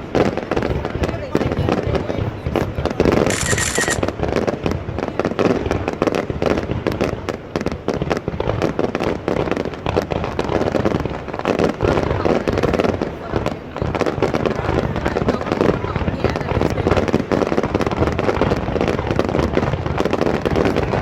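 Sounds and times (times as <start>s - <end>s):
fireworks bangs and pops: 0.0s - 21.0s
fireworks hissing crackle: 0.0s - 21.0s.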